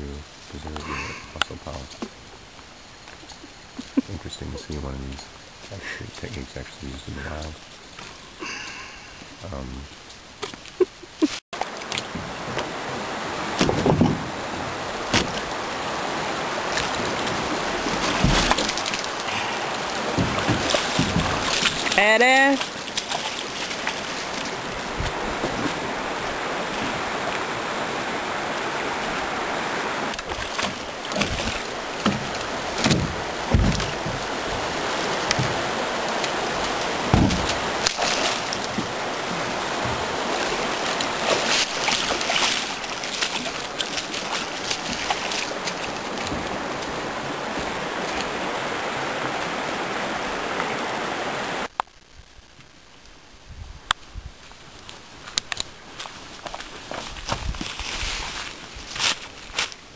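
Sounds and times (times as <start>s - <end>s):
rocky stream rushing: 0.0s - 51.7s
splashes of wading: 7.1s - 51.7s, 54.6s - 59.9s.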